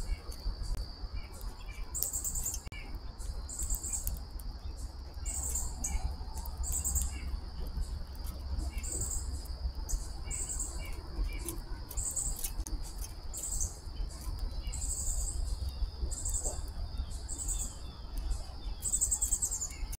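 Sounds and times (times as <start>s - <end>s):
insects trilling: 0.0s - 20.0s
small birds chirping: 0.0s - 20.0s
low rumble: 2.6s - 20.0s.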